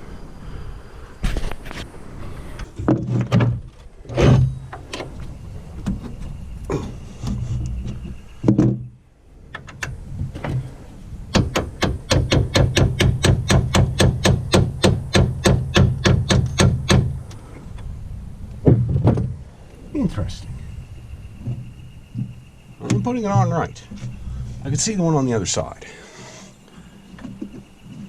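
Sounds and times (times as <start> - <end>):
steady low hum: 3.6 - 28.0.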